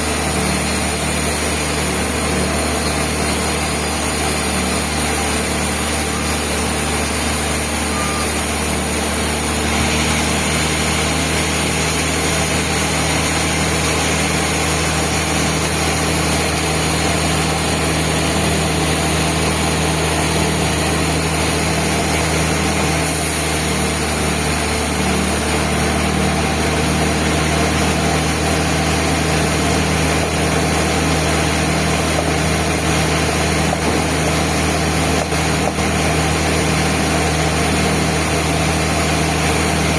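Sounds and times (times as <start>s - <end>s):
band sawmill drone: 0.0s - 39.9s.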